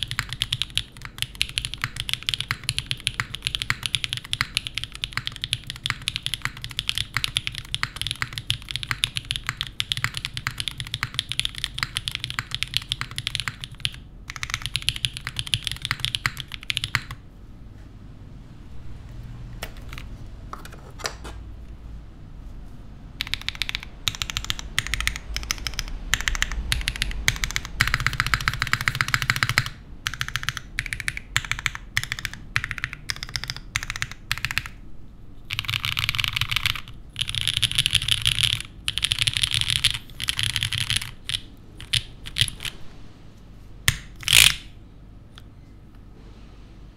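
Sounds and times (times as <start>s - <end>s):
mechanical keyboard typing: 0.0s - 17.2s, 19.6s - 21.3s, 23.2s - 34.8s, 35.5s - 42.8s, 43.9s - 44.7s.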